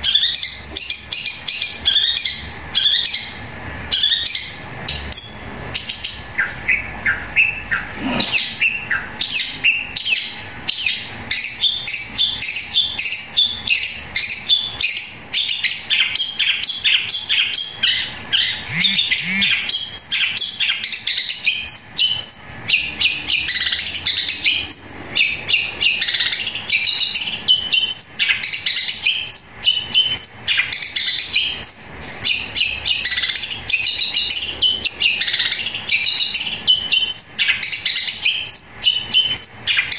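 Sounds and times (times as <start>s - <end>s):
shrike singing chirps: 0.0s - 39.9s.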